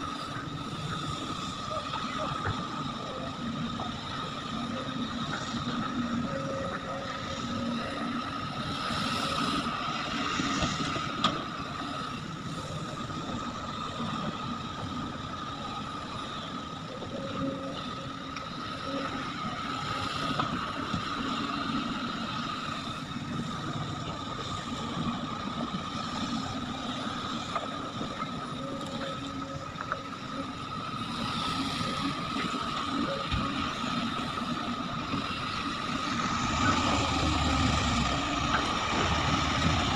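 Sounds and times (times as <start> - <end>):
heavy diesel machinery running: 0.0 - 39.9
high whine: 0.0 - 39.9.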